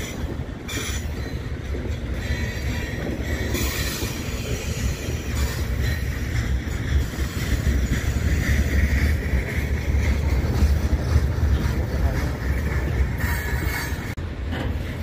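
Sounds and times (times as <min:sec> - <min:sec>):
train wheels rumbling on rails: 0:00.0 - 0:15.0
wind noise on microphone: 0:00.0 - 0:15.0.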